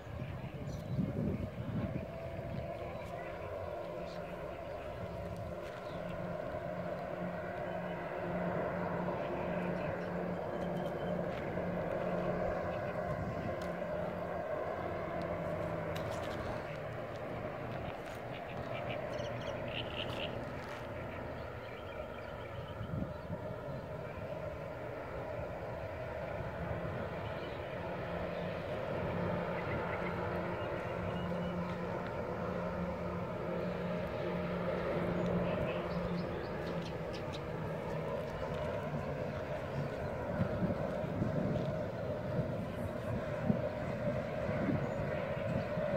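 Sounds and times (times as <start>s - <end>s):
distant diesel locomotive engine: 0.0s - 45.9s.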